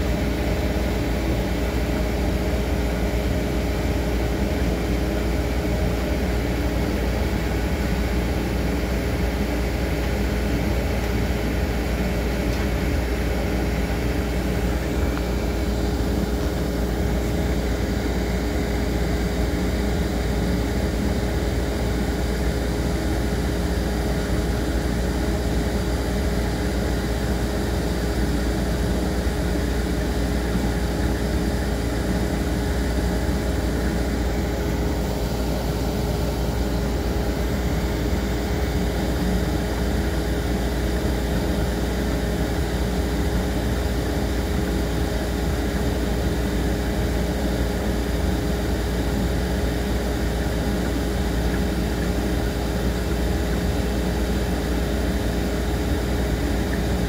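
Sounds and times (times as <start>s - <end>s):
machine humming: 0.0s - 57.0s.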